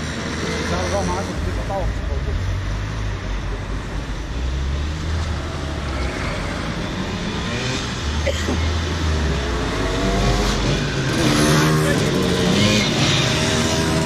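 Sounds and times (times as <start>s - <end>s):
two-stroke mopeds approaching: 0.0s - 2.6s, 4.6s - 14.0s
cars driving past: 0.0s - 14.0s.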